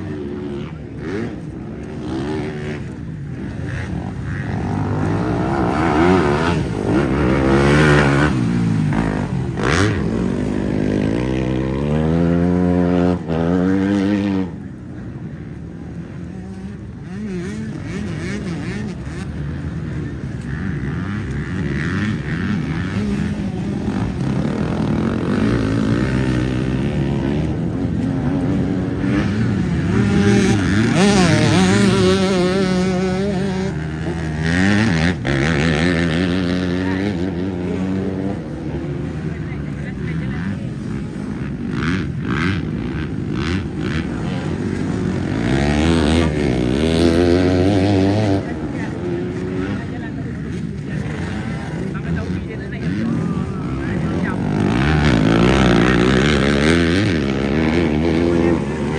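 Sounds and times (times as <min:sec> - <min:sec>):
motocross bikes revving: 0:00.0 - 0:58.9.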